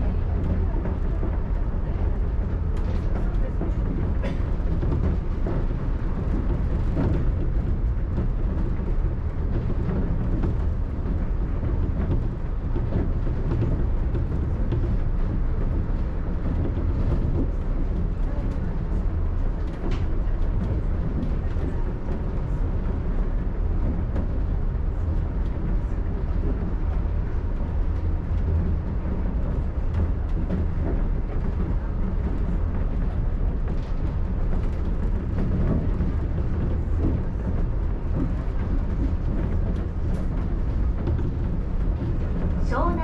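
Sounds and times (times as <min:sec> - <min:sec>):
monorail car rumbling: 0:00.0 - 0:43.0.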